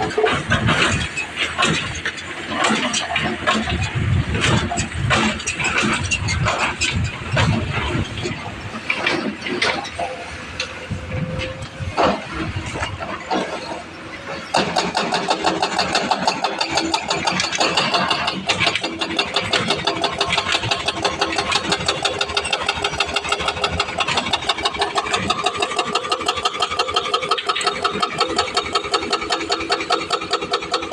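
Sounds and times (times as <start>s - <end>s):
excavator engine running: 0.0s - 30.9s
hydraulic breaker hammering rock: 0.0s - 30.9s.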